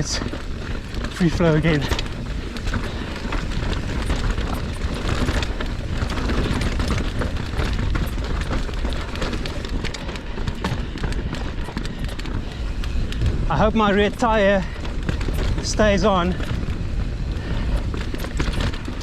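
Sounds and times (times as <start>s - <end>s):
bike clicks and rattles: 0.0s - 19.0s
tyres rolling over dirt: 0.0s - 19.0s
wind rush on microphone: 0.0s - 19.0s.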